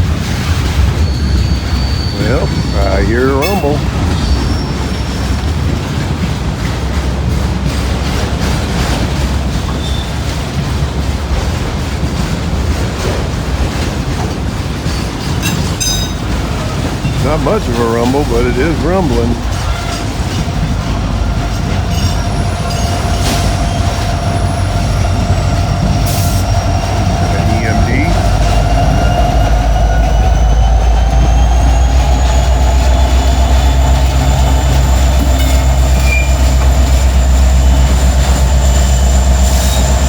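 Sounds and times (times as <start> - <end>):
freight train rumbling by: 0.0 - 40.0.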